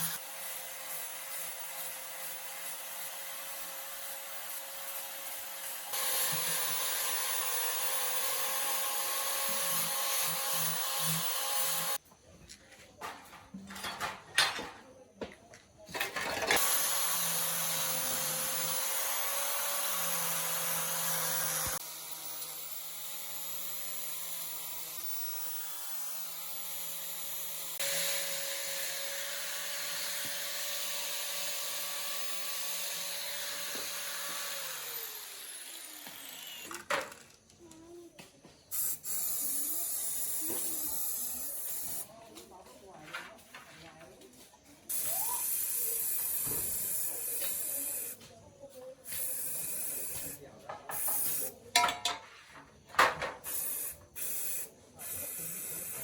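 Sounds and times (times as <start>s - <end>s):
small power tool whining: 0.0s - 12.0s, 16.0s - 42.1s, 44.9s - 51.7s, 53.0s - 56.0s.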